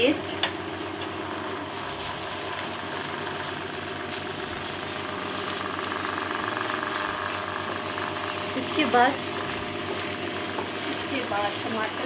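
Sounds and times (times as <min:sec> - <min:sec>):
low mechanical hum: 0:00.0 - 0:12.0
onions sizzling in a pan: 0:00.0 - 0:12.0.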